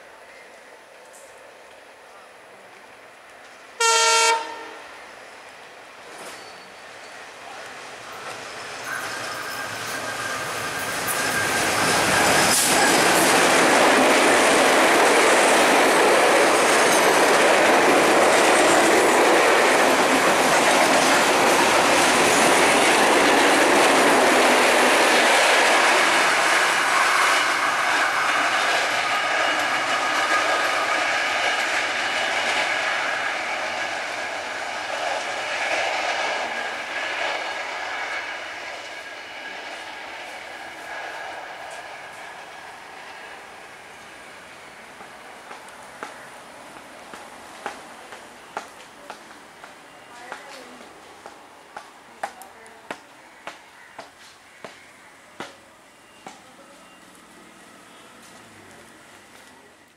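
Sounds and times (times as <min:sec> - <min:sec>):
passenger train passing: 0:00.0 - 0:59.9.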